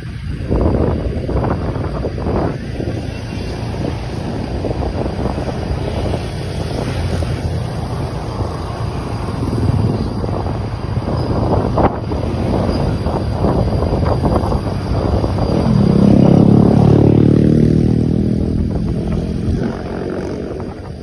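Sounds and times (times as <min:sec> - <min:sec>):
low vehicle rumble: 0:00.0 - 0:21.0
wind buffeting microphone: 0:00.0 - 0:21.0.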